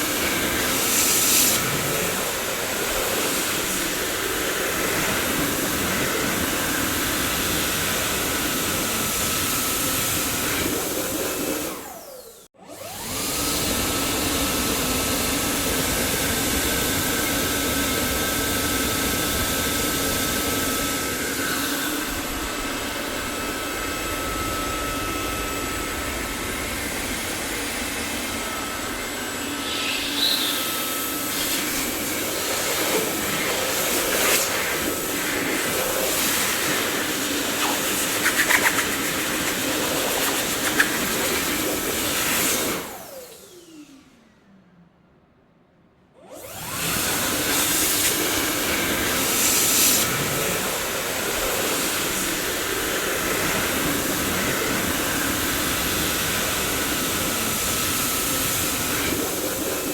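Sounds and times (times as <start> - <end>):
vacuum cleaner running: 0.0 - 44.5, 46.2 - 59.9.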